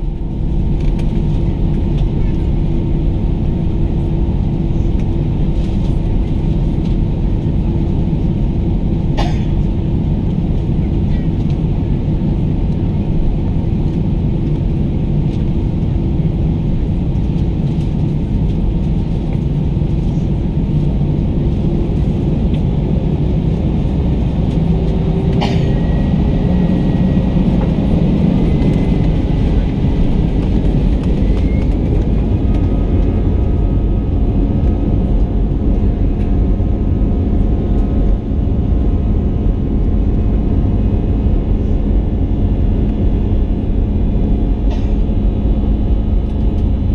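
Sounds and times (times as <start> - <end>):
aircraft cabin engine rumble: 0.0 - 46.9.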